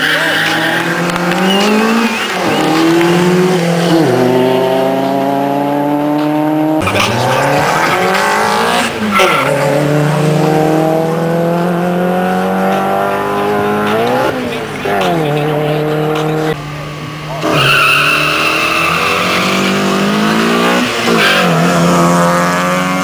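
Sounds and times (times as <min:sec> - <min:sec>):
race cars accelerating hard: 0:00.0 - 0:23.0.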